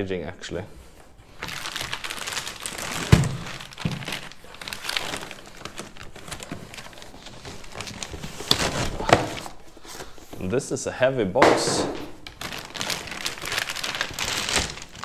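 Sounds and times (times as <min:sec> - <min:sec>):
plastic packing material crinkling: 0:00.8 - 0:10.6, 0:11.6 - 0:15.0.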